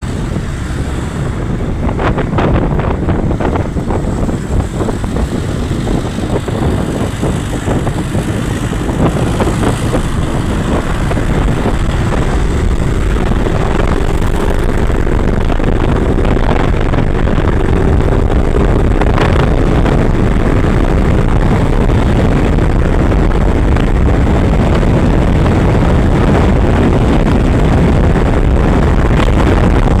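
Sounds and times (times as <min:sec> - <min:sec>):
motorcycle engine running: 0:00.0 - 0:30.0
rushing noise: 0:00.0 - 0:30.0.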